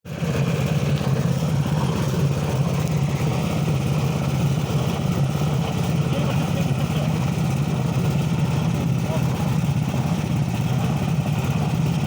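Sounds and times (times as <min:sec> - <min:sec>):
petrol engine running: 0:00.1 - 0:12.0.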